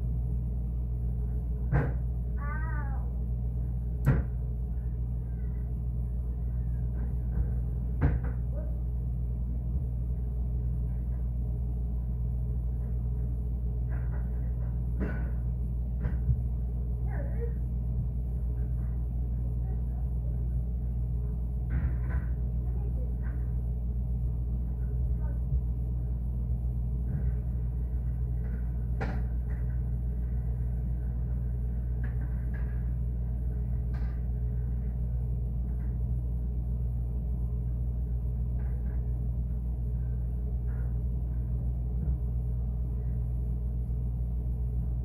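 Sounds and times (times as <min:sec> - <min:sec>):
refrigerator humming: 0:00.0 - 0:45.0.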